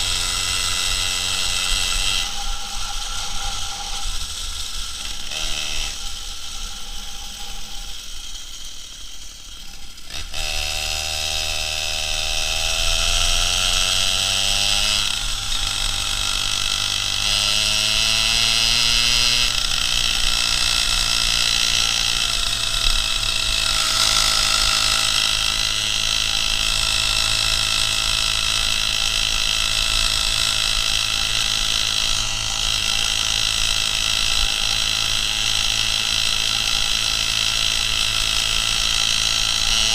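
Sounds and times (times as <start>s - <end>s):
two-stroke moped engine revving: 0.0s - 39.9s.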